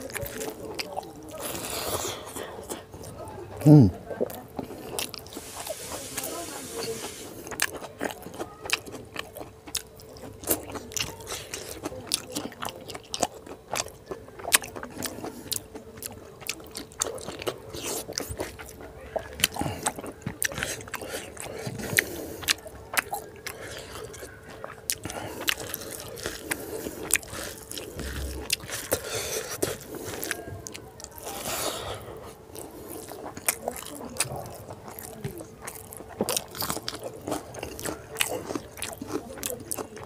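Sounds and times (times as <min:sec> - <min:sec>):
chewing food: 0:00.0 - 0:40.0.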